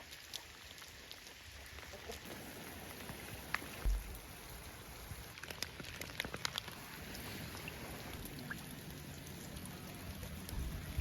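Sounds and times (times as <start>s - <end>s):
light rain falling: 0.0s - 11.0s
raindrops tapping: 0.2s - 11.0s.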